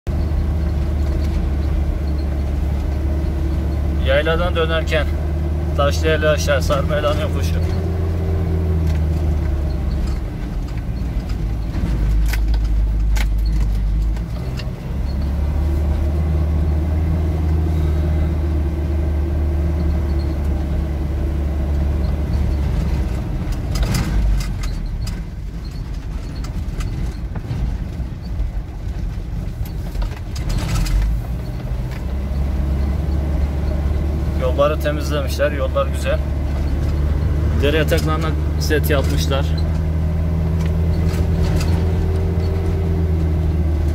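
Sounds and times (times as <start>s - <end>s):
car engine droning: 0.1s - 43.9s
tyre and road noise: 0.1s - 43.9s.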